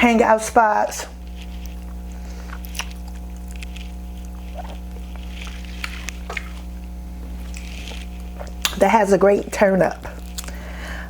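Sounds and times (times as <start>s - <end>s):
low electrical hum: 0.0s - 11.0s
person chewing food: 1.2s - 9.1s, 10.0s - 11.0s.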